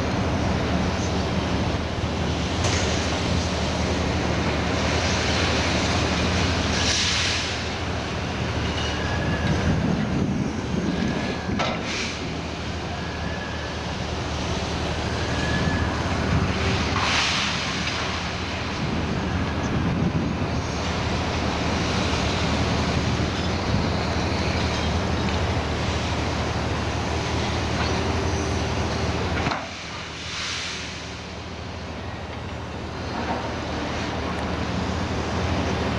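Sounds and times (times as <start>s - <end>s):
excavator diesel engines running: 0.0s - 35.9s.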